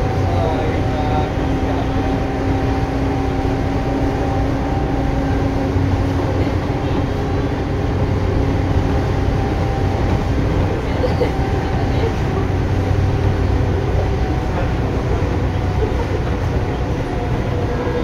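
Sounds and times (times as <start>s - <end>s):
low motor hum: 0.0s - 18.0s
train wheels rumbling on rail: 0.0s - 18.0s.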